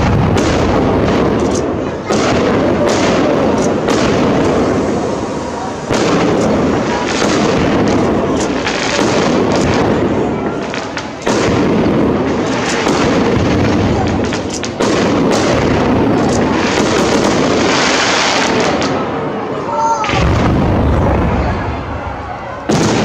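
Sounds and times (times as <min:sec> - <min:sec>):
firework crackles: 0:00.0 - 0:23.0
fireworks bursting: 0:00.0 - 0:23.0.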